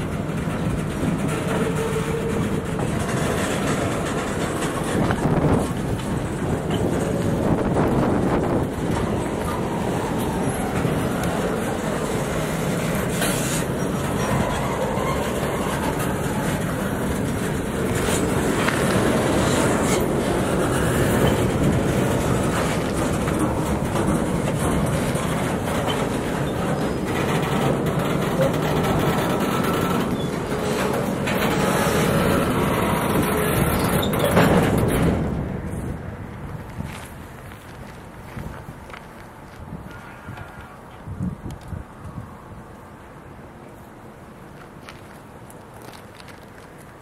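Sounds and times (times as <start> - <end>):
steel wheels rumbling on rail: 0.0 - 47.0
wheels clacking on rail joints: 0.0 - 47.0.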